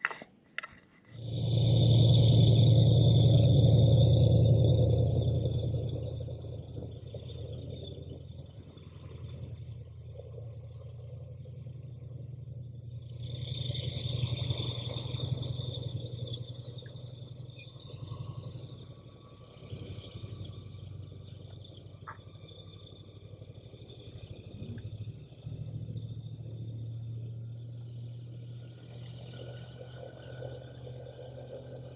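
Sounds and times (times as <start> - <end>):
airboat engine and propeller drone: 1.2 - 31.9.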